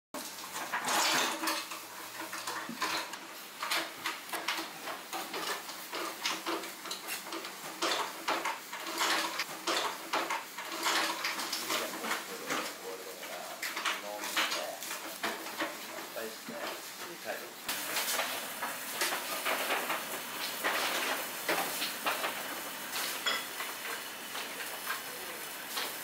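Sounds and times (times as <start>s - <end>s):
dishes and utensils clinking: 0.2s - 26.0s.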